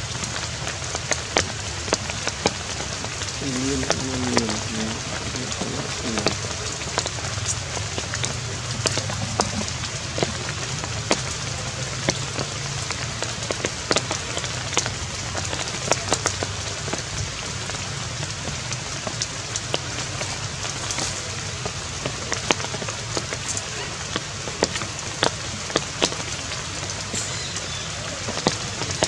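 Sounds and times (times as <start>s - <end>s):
rain pattering on wet leaves: 0.0s - 29.0s.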